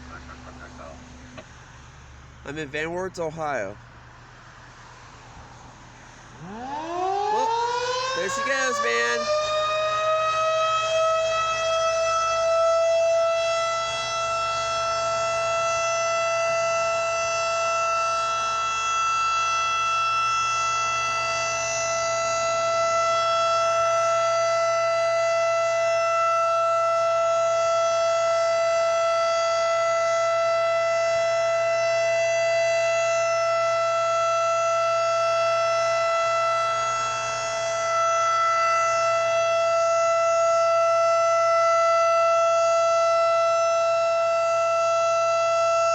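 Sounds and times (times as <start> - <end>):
tornado warning siren wail: 4.6 - 45.9.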